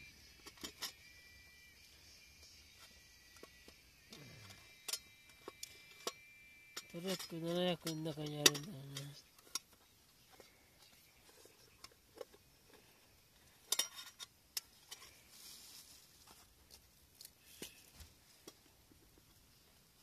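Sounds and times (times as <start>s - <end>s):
camping cookware clinking: 0.0s - 19.3s.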